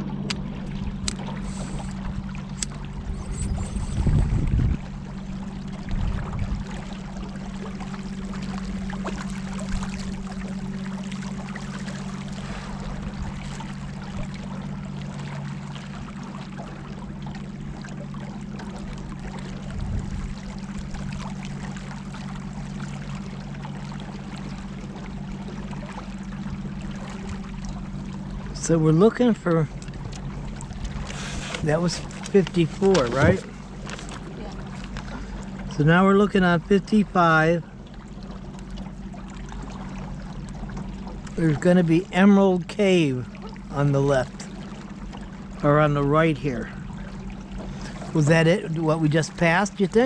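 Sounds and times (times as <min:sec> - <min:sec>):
boat motor humming: 0:00.0 - 0:50.0
low rumbles: 0:00.0 - 0:50.0
water rushing along hull: 0:00.0 - 0:50.0.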